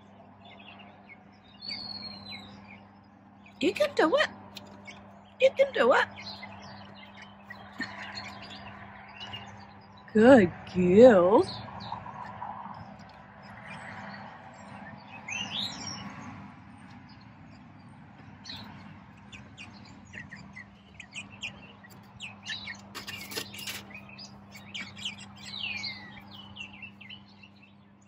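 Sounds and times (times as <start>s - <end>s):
birds chirping: 0.0s - 28.0s
faint low hum: 0.0s - 28.0s.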